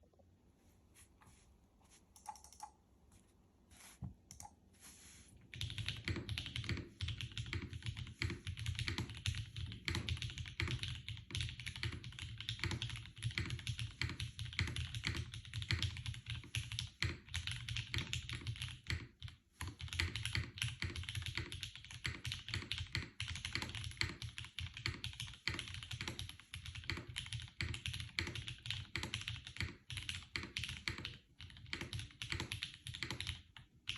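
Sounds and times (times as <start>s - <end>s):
mechanical keyboard typing: 2.2s - 2.8s, 5.5s - 33.9s.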